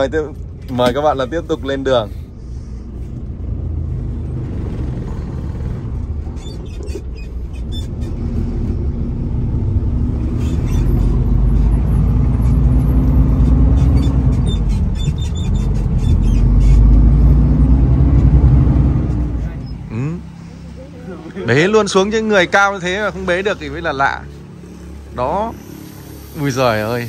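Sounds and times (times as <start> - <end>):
truck diesel engine accelerating: 0.0 - 27.0.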